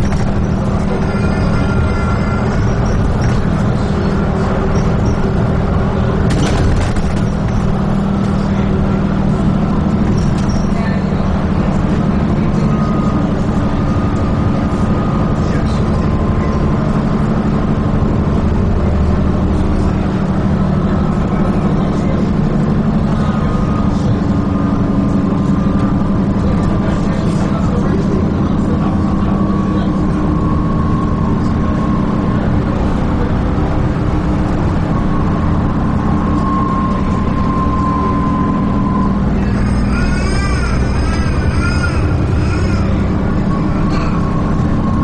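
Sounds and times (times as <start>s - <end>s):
bus diesel engine running: 0.0s - 45.0s
high drivetrain whine: 0.0s - 45.0s.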